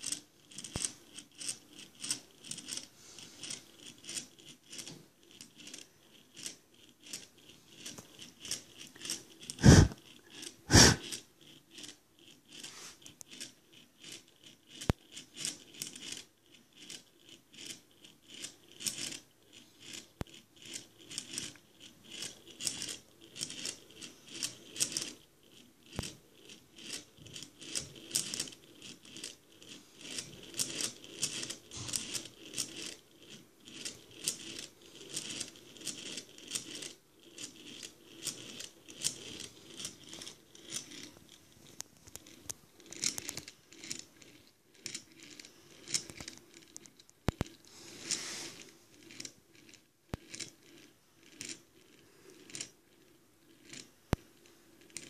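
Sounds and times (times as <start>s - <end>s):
metal balls rolling and clacking: 0.0s - 47.7s, 48.6s - 55.0s.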